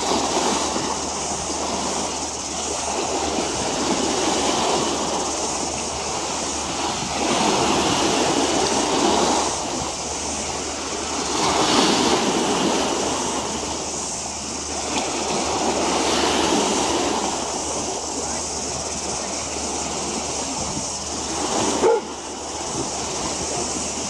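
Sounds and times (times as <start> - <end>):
water washing against waterfront: 0.0 - 24.0.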